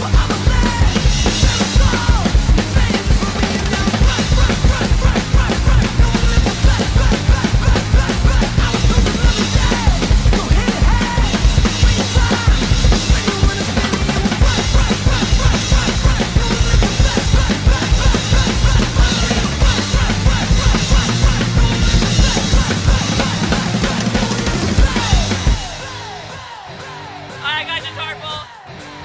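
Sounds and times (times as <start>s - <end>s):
hardcore punk track: 0.0s - 29.0s.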